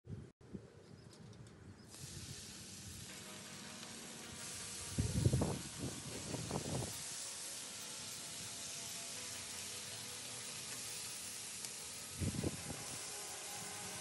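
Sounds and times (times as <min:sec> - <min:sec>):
bacon sizzling on a griddle: 0:01.9 - 0:14.0.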